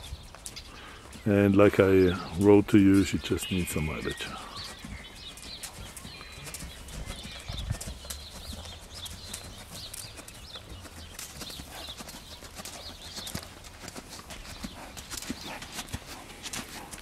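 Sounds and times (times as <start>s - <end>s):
hoofbeats on sand: 0.0s - 17.0s.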